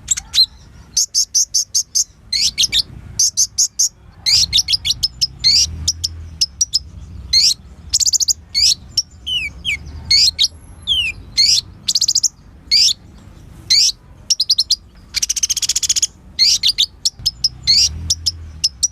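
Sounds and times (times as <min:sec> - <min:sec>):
bird chirping and trilling: 0:00.0 - 0:18.9.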